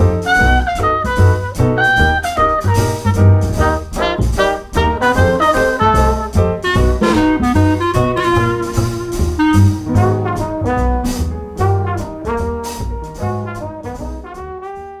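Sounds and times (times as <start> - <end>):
jazzy brass band music: 0.0 - 15.0.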